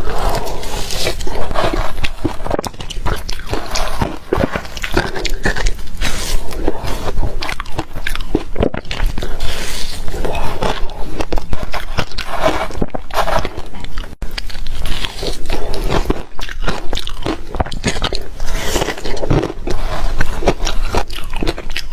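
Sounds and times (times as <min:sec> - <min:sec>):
chewing ice crunching: 0:00.0 - 0:21.9.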